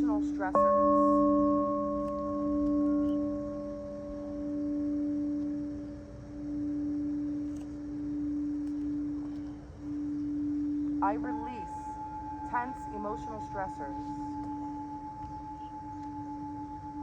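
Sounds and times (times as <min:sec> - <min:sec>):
singing bowl ringing: 0:00.0 - 0:17.0
steady low bowl tone: 0:00.0 - 0:17.0.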